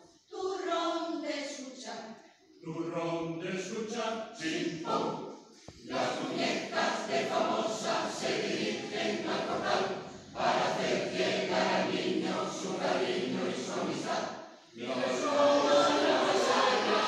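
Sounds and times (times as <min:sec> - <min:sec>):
mixed choir singing: 0:02.6 - 0:17.0.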